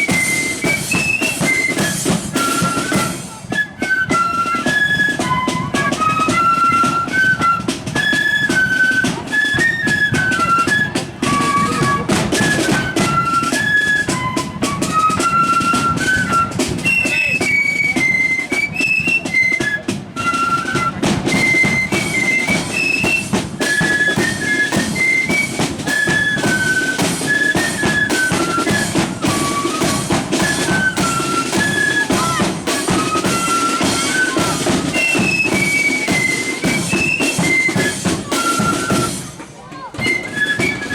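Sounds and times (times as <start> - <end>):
drums beating: 0.0 - 40.9
flute band playing: 0.0 - 40.9.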